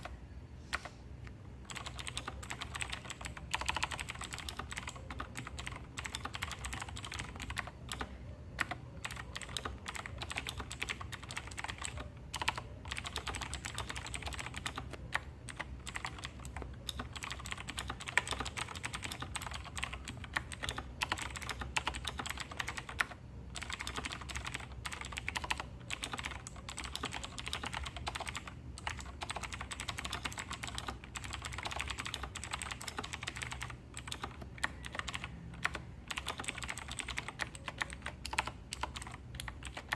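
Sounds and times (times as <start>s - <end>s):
mechanical keyboard typing: 0.0s - 0.9s, 1.6s - 39.9s.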